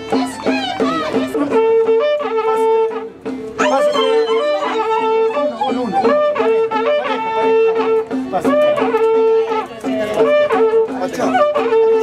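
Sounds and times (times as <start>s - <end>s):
folk dance music on wind instruments: 0.0s - 12.0s.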